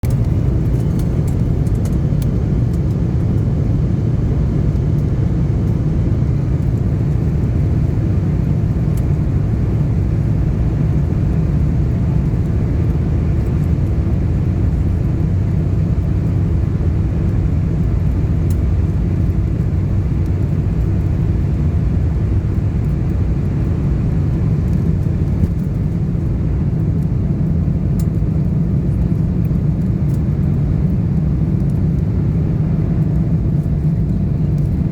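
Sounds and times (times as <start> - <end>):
jet airliner rumble: 0.0 - 34.9.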